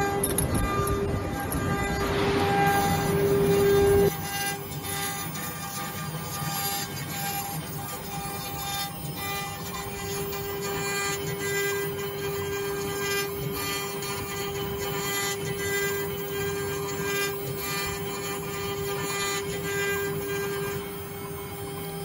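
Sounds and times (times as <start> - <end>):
router bit carving wood: 0.0 - 22.0
router spindle whining: 0.0 - 22.0.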